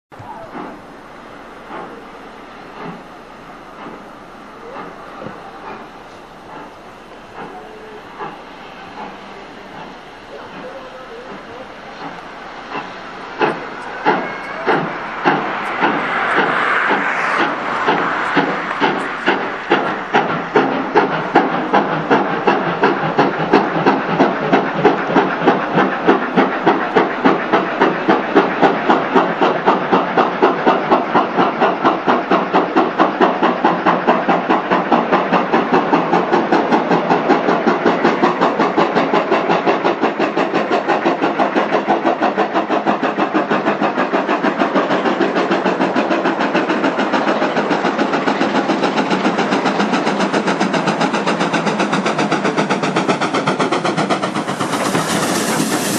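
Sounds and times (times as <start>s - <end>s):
steam locomotive exhaust beats: 0.1s - 55.9s.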